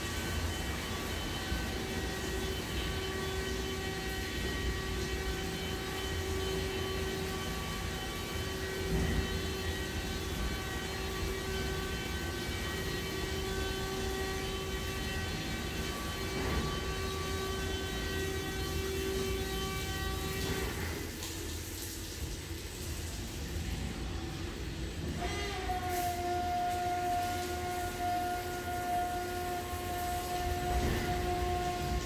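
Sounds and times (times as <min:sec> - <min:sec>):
electric motor whine: 0:00.0 - 0:21.1, 0:24.1 - 0:32.0.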